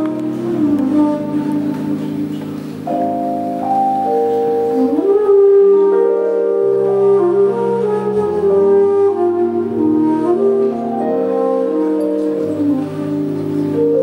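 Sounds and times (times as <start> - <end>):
alto flute melody: 0.0 - 14.0
electric piano chords: 0.0 - 14.0.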